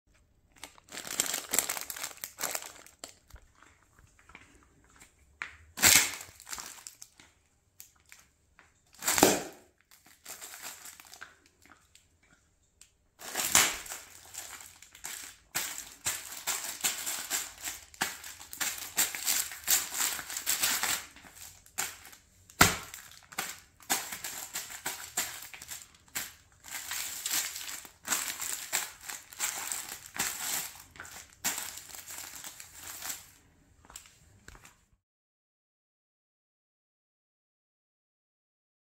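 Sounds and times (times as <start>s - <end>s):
plastic packets crinkling underfoot: 0.1s - 12.4s, 13.2s - 34.8s.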